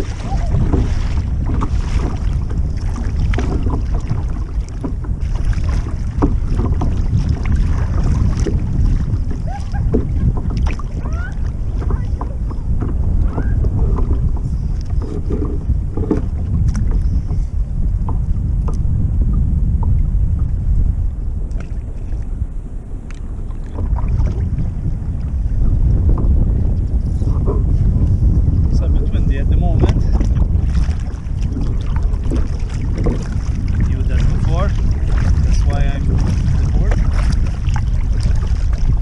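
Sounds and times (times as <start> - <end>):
water slapping against kayak hull: 0.0 - 39.0
wind buffeting microphone: 0.0 - 39.0.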